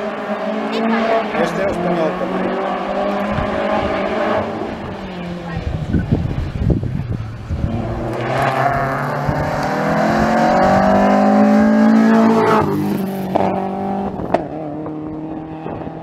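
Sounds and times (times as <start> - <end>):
rally car accelerating hard: 0.0 - 16.0.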